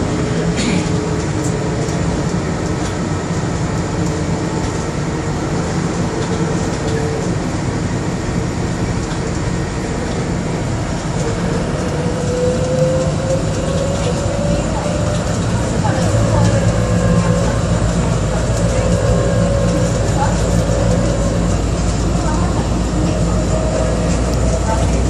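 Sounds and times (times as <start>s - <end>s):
people mover train rumbling: 0.0s - 25.0s.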